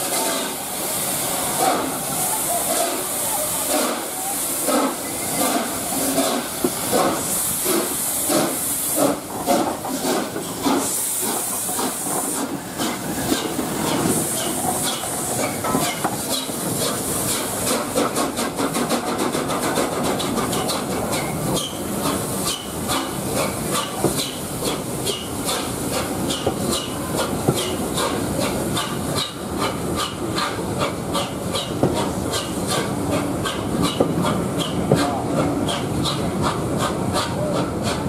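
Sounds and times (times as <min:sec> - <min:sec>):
steam hissing: 0:00.0 - 0:38.0
steam locomotive chuffing: 0:00.0 - 0:38.0
train wheels clicking over rail joints: 0:00.0 - 0:38.0.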